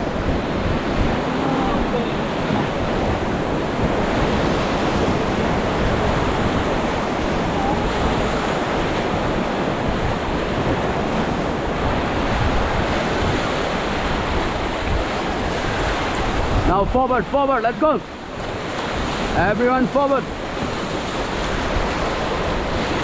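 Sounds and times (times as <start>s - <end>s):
river water rushing: 0.0s - 23.0s
wind buffeting microphone: 0.0s - 23.0s.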